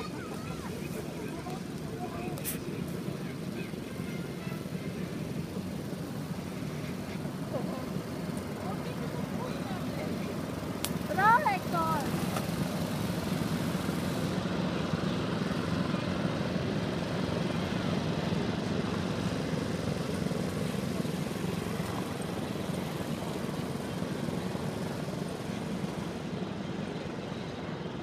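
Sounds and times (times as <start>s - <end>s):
go-kart engines buzzing: 0.0s - 28.0s.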